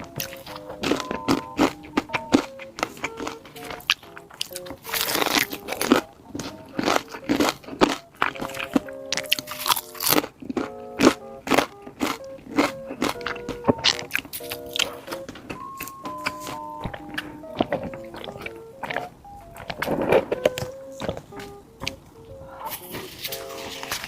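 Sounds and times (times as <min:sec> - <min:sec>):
background music: 0:00.0 - 0:24.0
crisp food crunching: 0:00.0 - 0:24.0.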